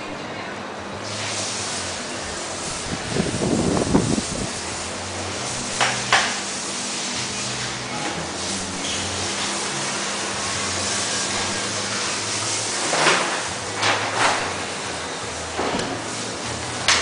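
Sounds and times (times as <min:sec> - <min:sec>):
workshop hiss: 0:00.6 - 0:17.0.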